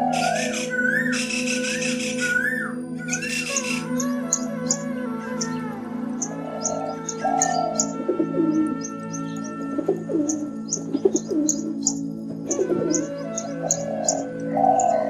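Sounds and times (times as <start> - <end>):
held musical drone: 0.0 - 15.0
low falling bird calls: 0.0 - 15.0
high bird chirps: 0.1 - 15.0.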